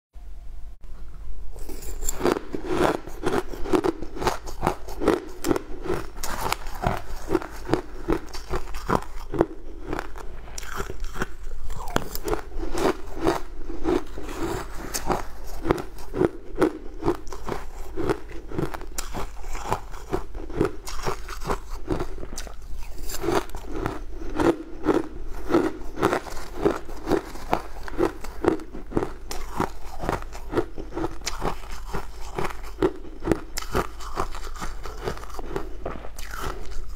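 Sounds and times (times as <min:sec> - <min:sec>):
person crunching ice: 0:01.6 - 0:36.9.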